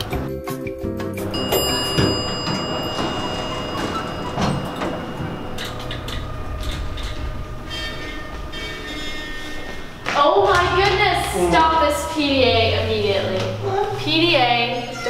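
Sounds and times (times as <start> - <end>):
elevator doors sliding open: 1.2 - 15.0
elevator rumble and whine: 1.2 - 15.0.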